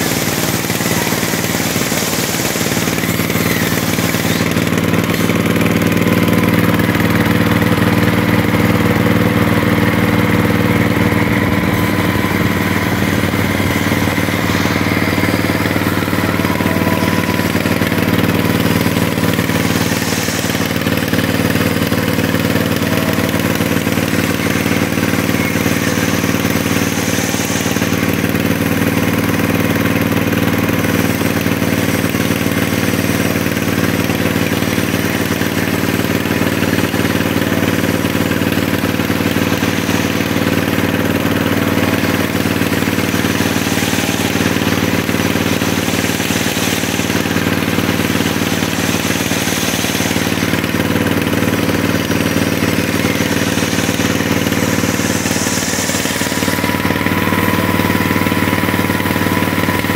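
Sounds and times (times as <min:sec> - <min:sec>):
circular saw ripping timber: 0:00.0 - 0:59.9
diesel engine running: 0:00.0 - 0:59.9.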